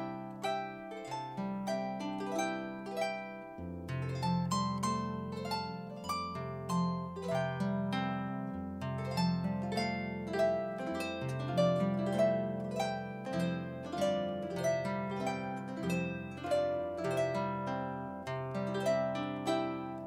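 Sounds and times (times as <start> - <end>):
harp playing: 0.0 - 20.0.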